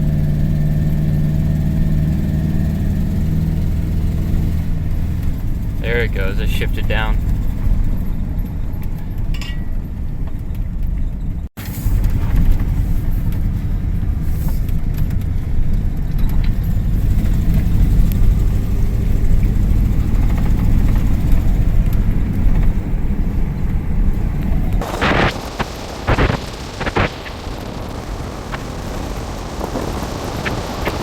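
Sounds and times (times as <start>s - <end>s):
pickup engine running rough: 0.0s - 31.0s
road rumble: 0.0s - 31.0s.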